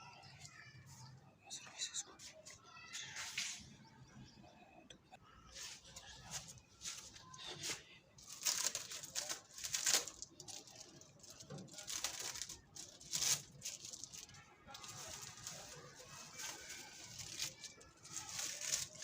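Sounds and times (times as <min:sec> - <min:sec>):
rustling and scraping handling noises: 0:00.2 - 0:04.3, 0:05.4 - 0:19.0.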